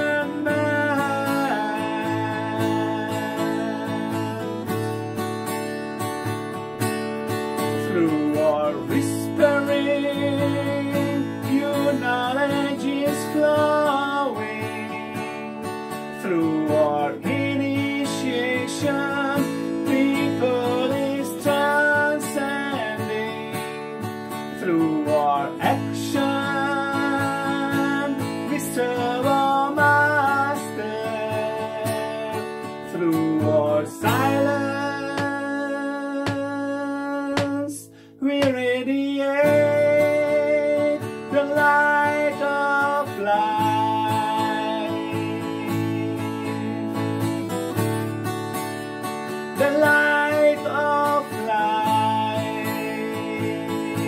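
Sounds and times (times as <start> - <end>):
man singing: 0.0 - 5.7, 7.2 - 48.1, 49.1 - 54.0
strummed acoustic guitar: 0.0 - 54.0.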